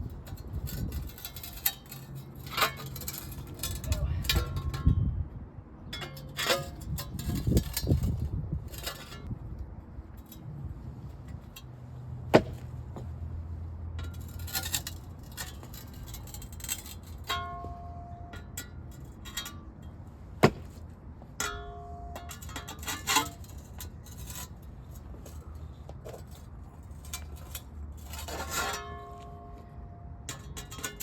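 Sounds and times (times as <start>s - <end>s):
pavers scraping and clinking: 0.1s - 4.9s, 5.8s - 9.3s, 10.2s - 31.0s.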